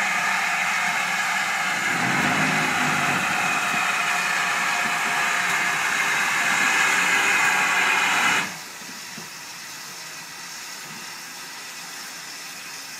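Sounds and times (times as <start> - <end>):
steam locomotive venting steam: 0.0 - 12.9.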